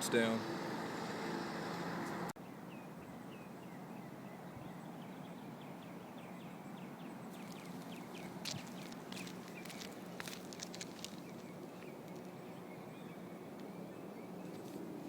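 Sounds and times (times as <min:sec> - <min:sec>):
outdoor background noise: 0:00.0 - 0:15.0
bird chirping: 0:02.4 - 0:14.9.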